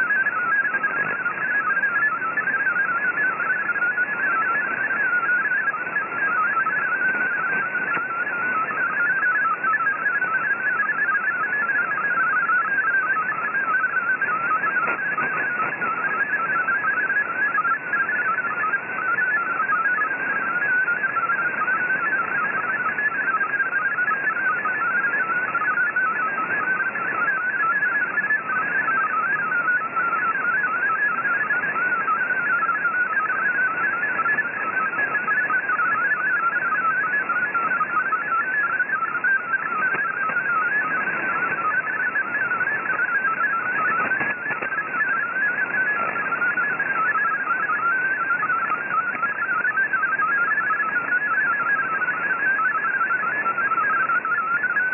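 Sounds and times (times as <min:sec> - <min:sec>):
digital radio tones hopping in pitch: 0:00.0 - 0:54.9
radio band hiss and static: 0:00.0 - 0:54.9.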